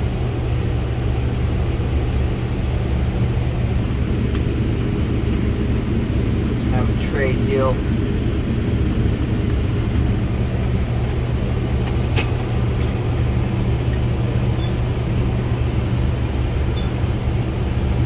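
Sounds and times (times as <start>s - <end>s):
combine harvester humming: 0.0s - 18.0s.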